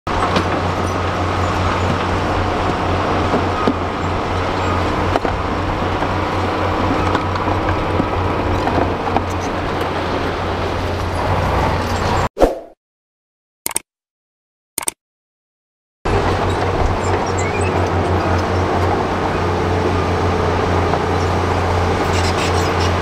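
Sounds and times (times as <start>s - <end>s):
heavy diesel engines droning: 0.1s - 12.3s, 16.1s - 23.0s.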